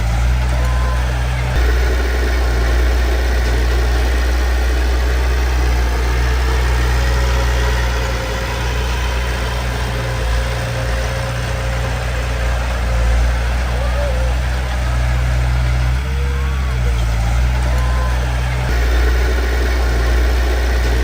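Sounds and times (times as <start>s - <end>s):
heavy diesel engine rumbling: 0.0s - 21.0s.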